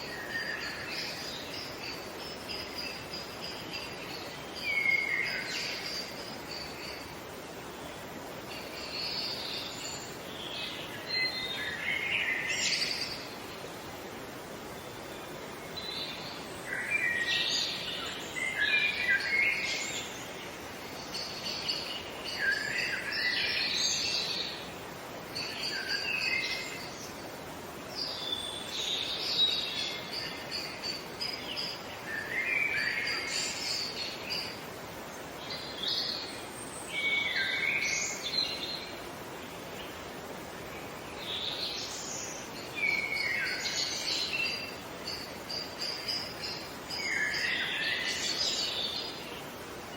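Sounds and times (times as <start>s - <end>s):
songbird chirps and trills: 0.0s - 49.9s
steady background hiss: 0.0s - 49.9s.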